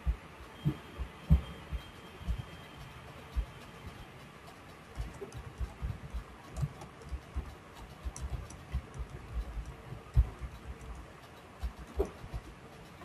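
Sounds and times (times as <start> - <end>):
keyboard typing: 0.0 - 13.0.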